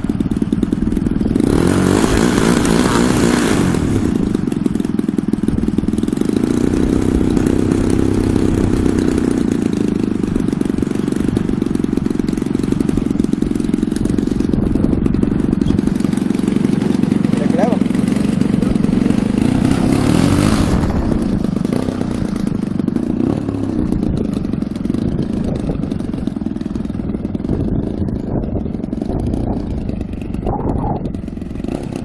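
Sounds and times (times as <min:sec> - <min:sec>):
model plane engine idling: 0:00.0 - 0:32.0.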